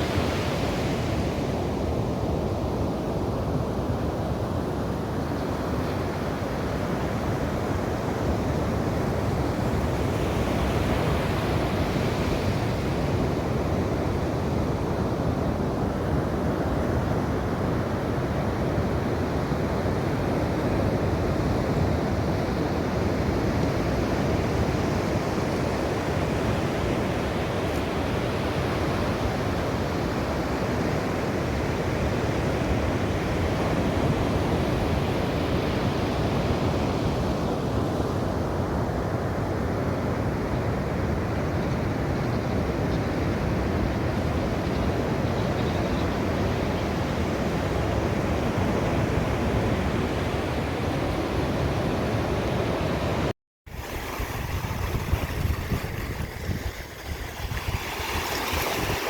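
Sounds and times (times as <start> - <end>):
ocean waves on shore: 0.0 - 59.0.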